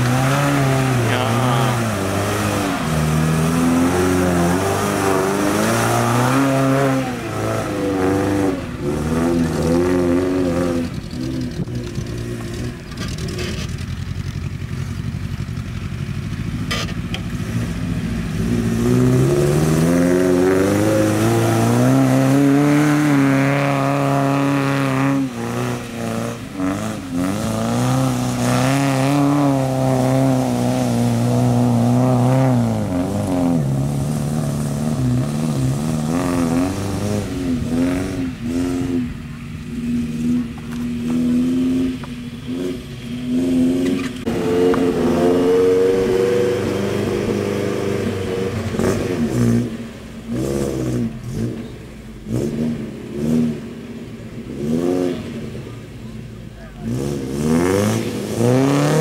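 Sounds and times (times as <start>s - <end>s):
pickup engine revving: 0.0s - 59.0s.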